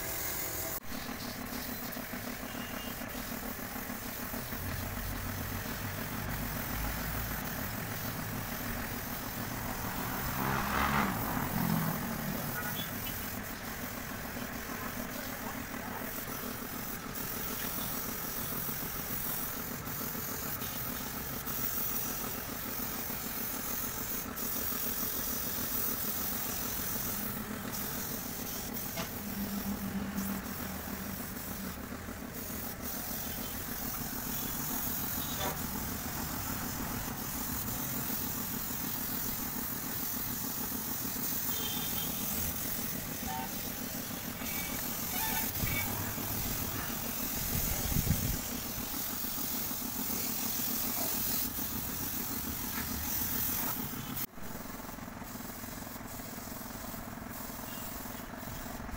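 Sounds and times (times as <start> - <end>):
air compressor running: 0.0 - 58.9
spray gun air hissing: 0.0 - 58.9.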